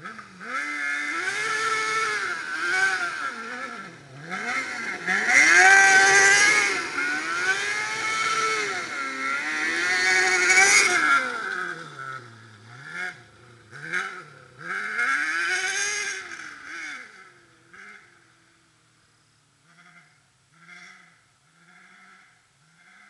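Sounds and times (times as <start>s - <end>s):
buggy engine revving: 0.0s - 23.0s.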